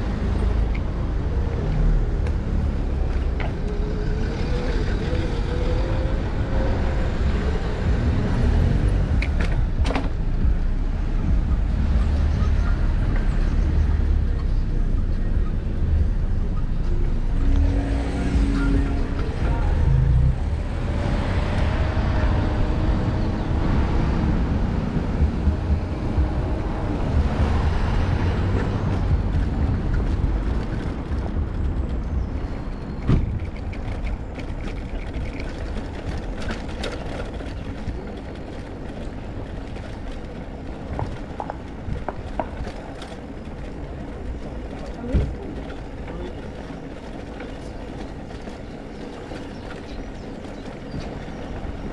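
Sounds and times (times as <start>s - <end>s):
bicycle frame rattling on cobblestones: 0.0s - 51.9s
low rumble of bicycle: 0.0s - 51.9s
road traffic: 0.0s - 51.9s.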